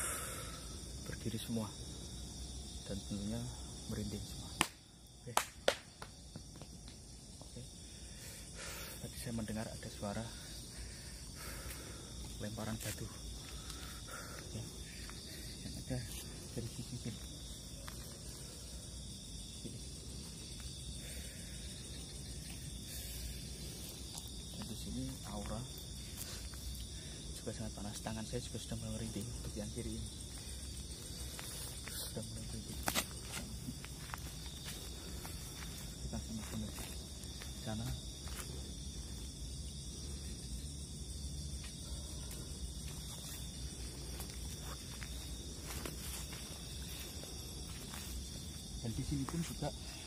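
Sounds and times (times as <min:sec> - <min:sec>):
crickets trilling: 0:00.0 - 0:50.0
night insects chirring: 0:00.0 - 0:50.0.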